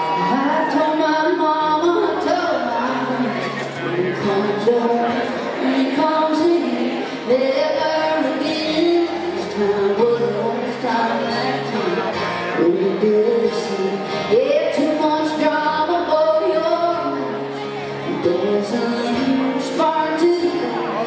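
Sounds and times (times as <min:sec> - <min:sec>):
country band playing: 0:00.0 - 0:21.0
woman singing: 0:00.0 - 0:21.0.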